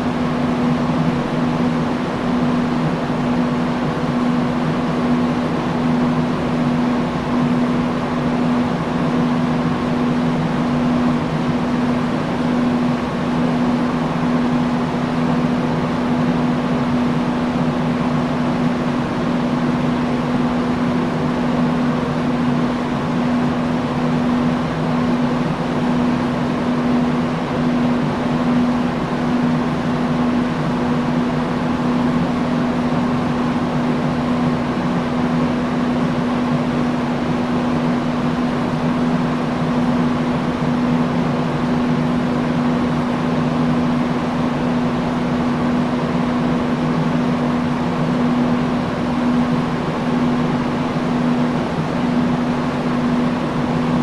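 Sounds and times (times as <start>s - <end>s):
industrial fan running: 0.0s - 54.0s.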